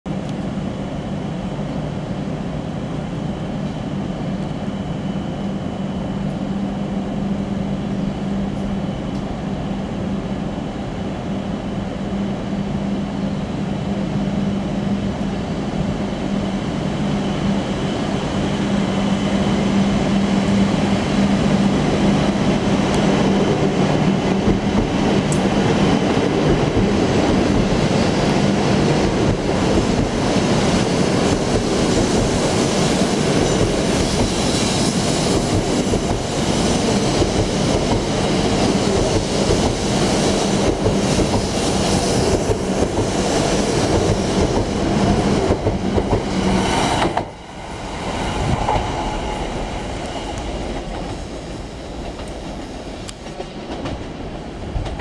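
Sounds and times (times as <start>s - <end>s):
train passing with low hum: 0.1s - 55.0s.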